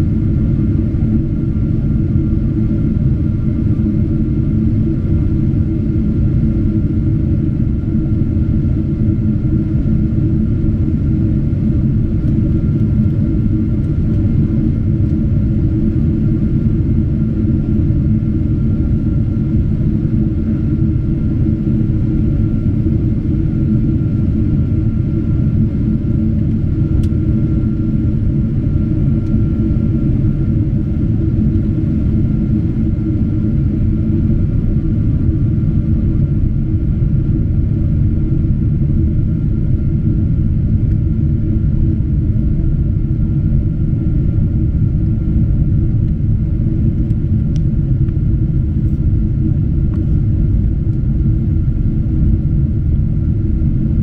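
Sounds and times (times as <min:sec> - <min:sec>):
airliner cabin drone: 0:00.0 - 0:54.0
faint steady whine: 0:00.0 - 0:54.0.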